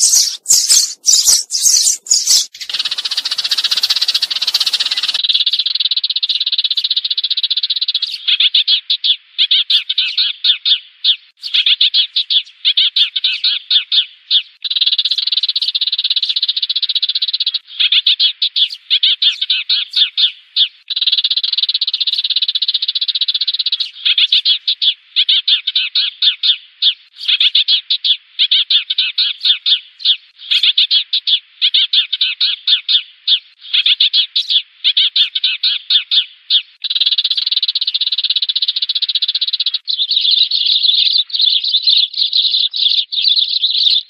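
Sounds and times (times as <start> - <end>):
sparrows chattering: 0.0 - 44.0.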